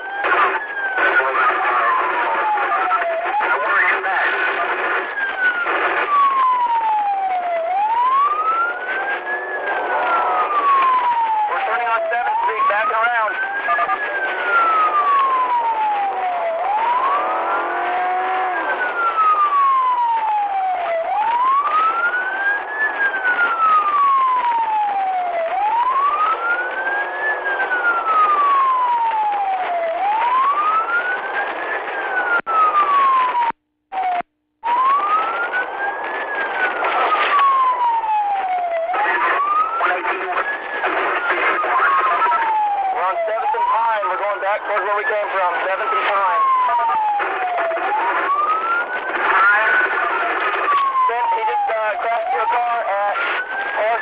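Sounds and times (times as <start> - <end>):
police siren wailing: 0.0 - 54.0
road and engine noise: 0.0 - 54.0.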